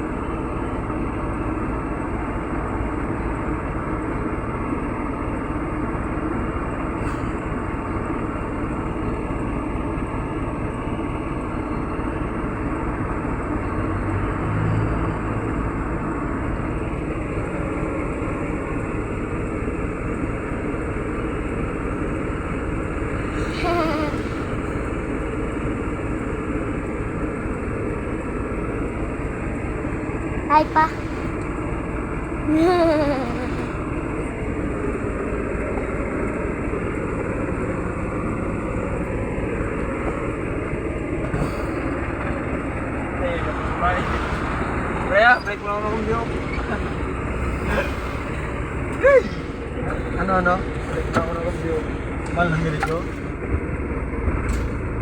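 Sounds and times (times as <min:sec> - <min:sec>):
pickup truck engine and road rumble: 0:00.0 - 0:55.0.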